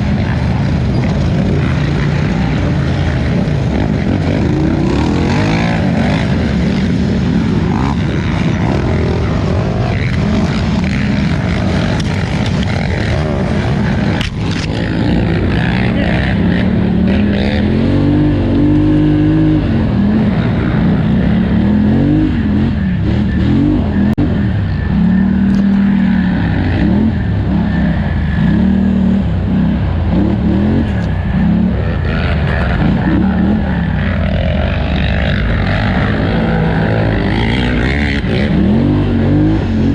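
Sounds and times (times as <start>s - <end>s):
atv engine racing: 0.0s - 39.9s.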